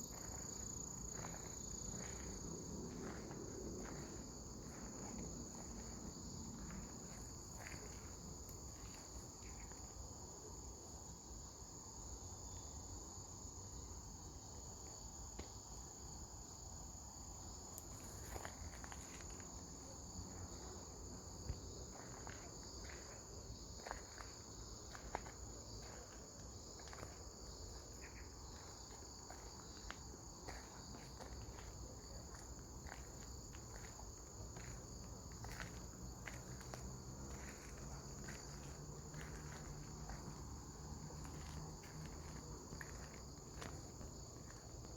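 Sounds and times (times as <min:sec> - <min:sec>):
insects chirping in grass: 0:00.0 - 0:44.9.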